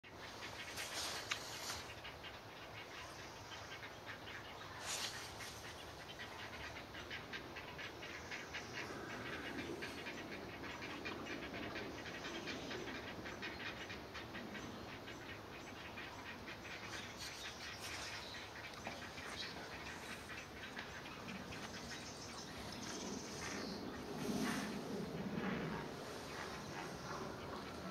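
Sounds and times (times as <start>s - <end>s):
heron chicks begging chatter: 0.2s - 24.7s.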